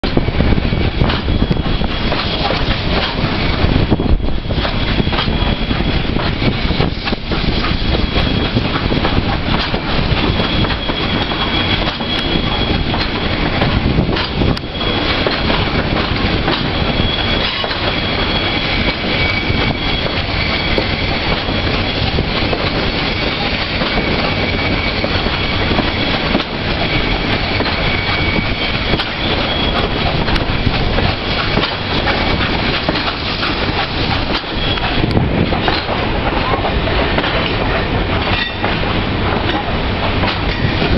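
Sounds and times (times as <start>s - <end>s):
locomotive wheels rumbling: 0.0s - 40.9s
steam hissing: 0.2s - 40.9s
high wheel squeals: 3.2s - 6.9s, 7.5s - 8.9s, 9.8s - 37.0s, 37.8s - 38.8s.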